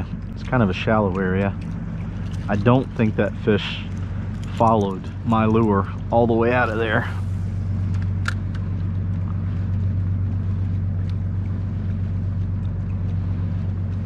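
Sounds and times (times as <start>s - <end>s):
electric motor humming: 0.0s - 14.0s.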